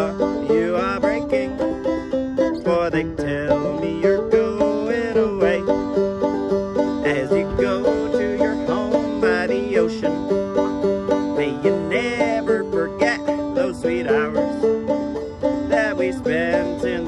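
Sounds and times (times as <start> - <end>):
banjo plucked notes: 0.0 - 17.0.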